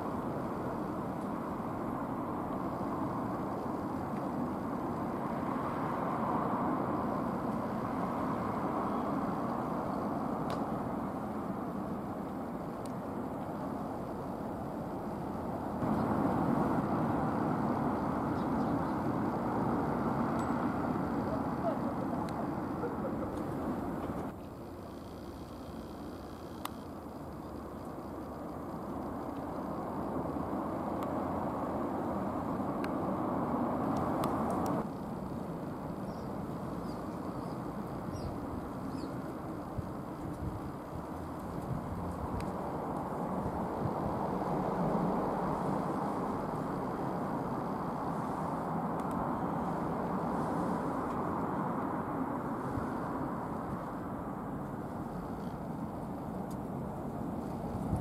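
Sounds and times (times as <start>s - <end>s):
vehicle rumble: 0.0s - 58.0s.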